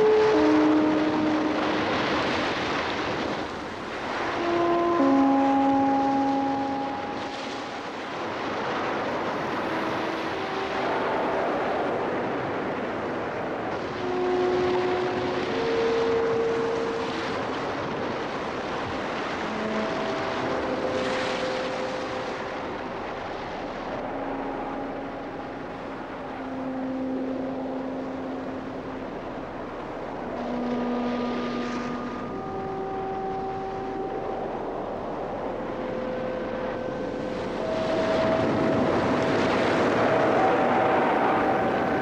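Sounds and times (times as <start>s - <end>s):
long held melodic notes: 0.0s - 42.0s
storm surf breaking on rocks: 0.0s - 42.0s
wind: 0.0s - 42.0s.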